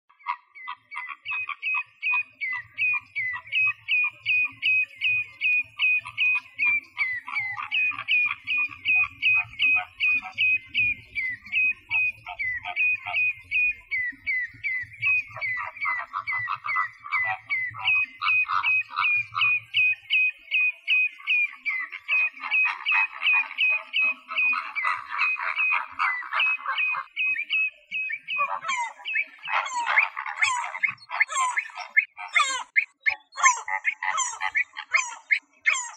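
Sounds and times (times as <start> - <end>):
lower bird calls: 0.1 - 35.9.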